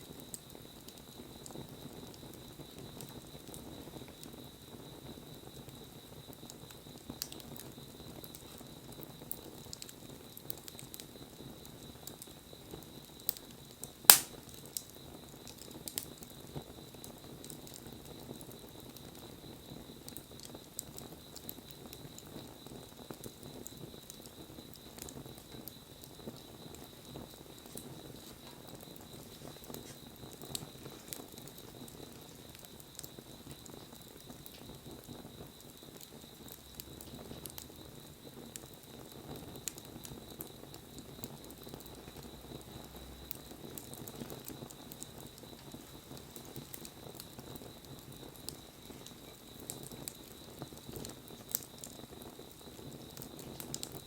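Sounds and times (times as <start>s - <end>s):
fire crackles and pops: 0.0s - 54.0s
wood fire burning: 0.0s - 54.0s.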